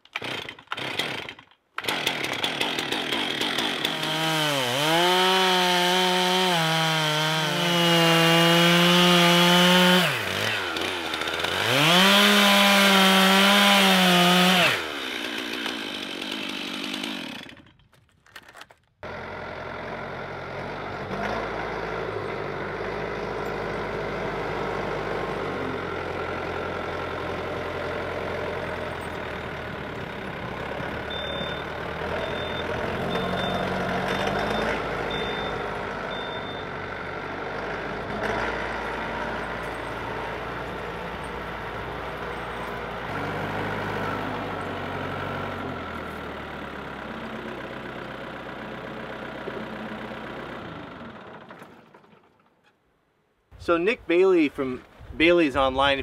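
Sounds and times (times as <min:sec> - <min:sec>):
chainsaw cutting through log: 0:00.0 - 0:51.3
tractor diesel engine running: 0:03.5 - 0:52.5.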